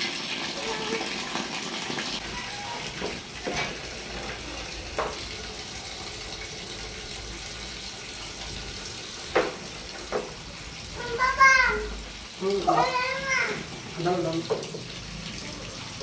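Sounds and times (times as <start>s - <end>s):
tap water pouring into tub: 0.0s - 16.0s.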